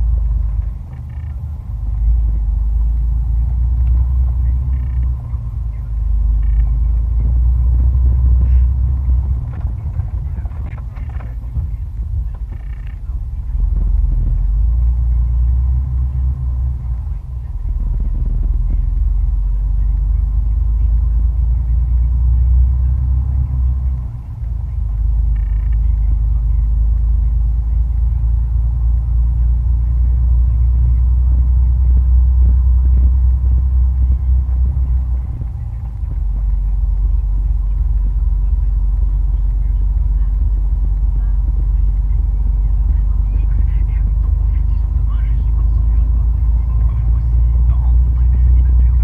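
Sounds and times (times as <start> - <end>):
vehicle engine and tyres on gravel: 0.0 - 49.0.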